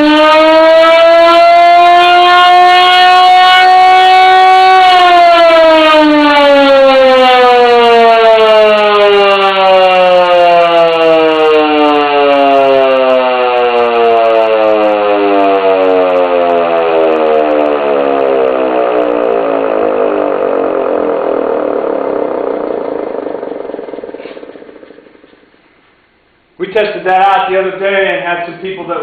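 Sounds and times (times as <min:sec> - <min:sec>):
siren winding down: 0:00.0 - 0:26.6.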